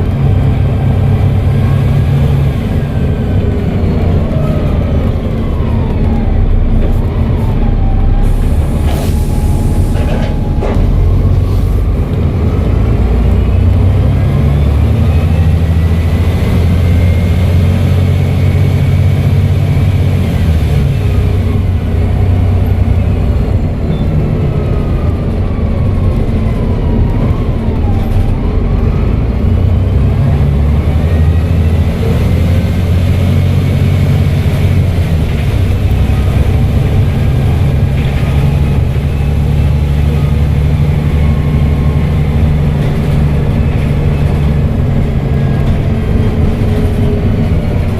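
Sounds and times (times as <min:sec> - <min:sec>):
bus diesel engine: 0:00.0 - 0:47.9.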